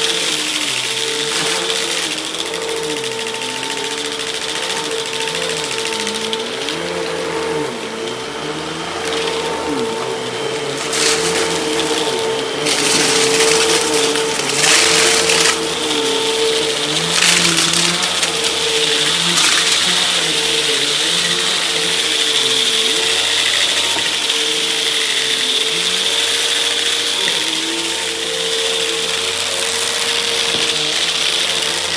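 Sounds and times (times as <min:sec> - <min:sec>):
vacuum cleaner motor whining: 0:00.0 - 0:31.9.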